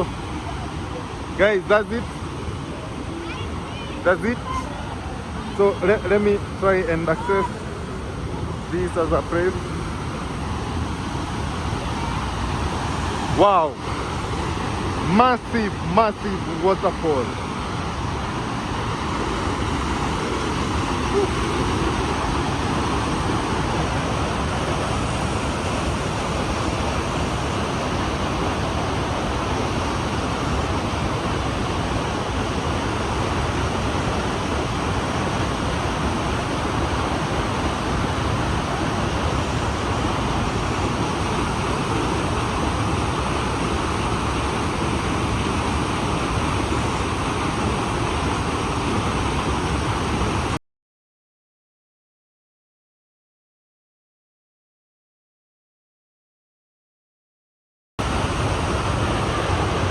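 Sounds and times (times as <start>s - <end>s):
waterfall rushing: 0.0s - 50.6s, 58.0s - 59.9s.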